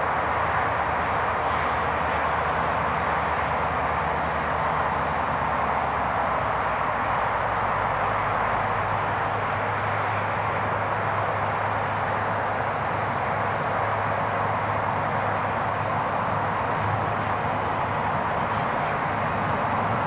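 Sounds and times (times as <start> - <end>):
locomotive engine hum: 0.0 - 20.0.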